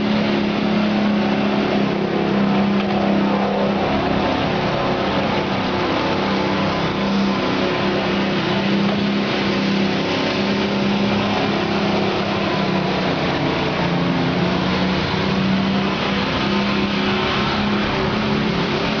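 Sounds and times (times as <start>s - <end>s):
gas engine running steadily: 0.0s - 19.0s.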